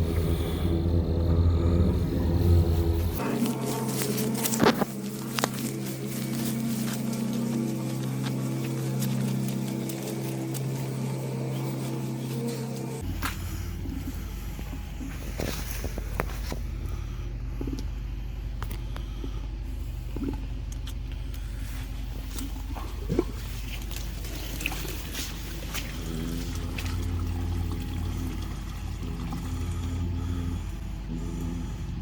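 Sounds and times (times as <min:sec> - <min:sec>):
engine droning: 0:00.0 - 0:32.0.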